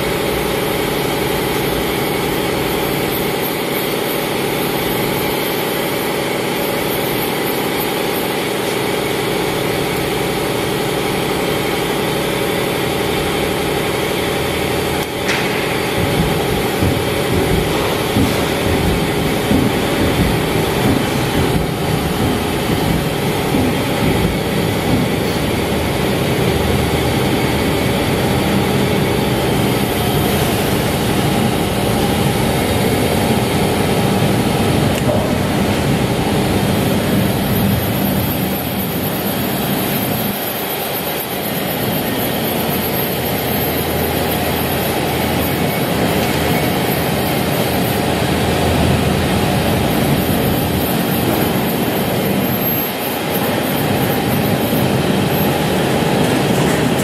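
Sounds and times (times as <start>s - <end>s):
machine whir: 0.0s - 57.0s.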